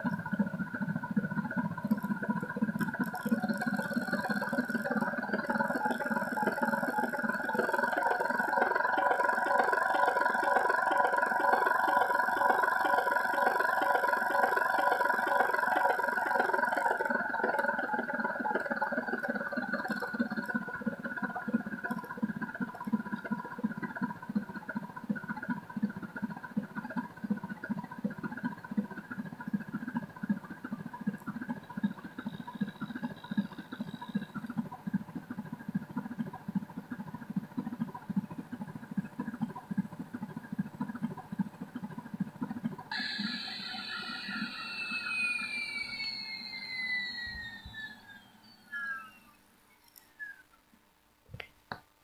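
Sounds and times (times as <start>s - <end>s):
helicopter rotor chop: 0.0s - 48.5s
turbine whine: 0.0s - 50.5s.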